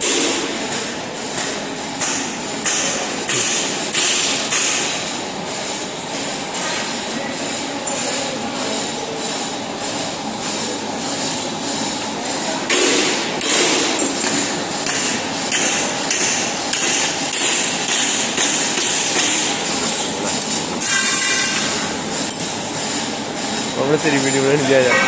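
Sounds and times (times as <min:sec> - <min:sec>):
steady machinery noise: 0:00.0 - 0:25.0.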